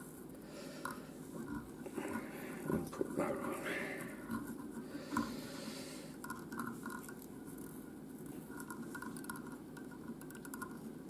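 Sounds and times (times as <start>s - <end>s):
faint scratching and ticking: 0.0s - 11.0s.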